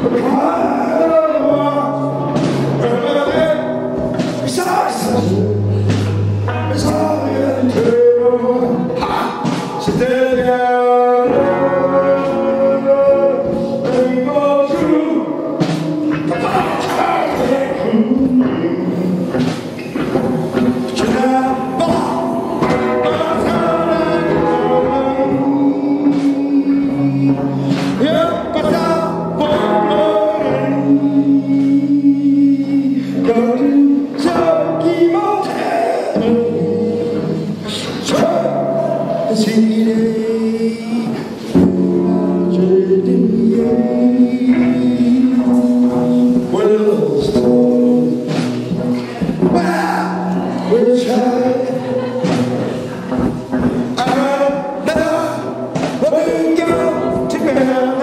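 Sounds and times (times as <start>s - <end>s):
man singing into microphone: 0.0s - 58.0s
musical accompaniment: 0.0s - 58.0s.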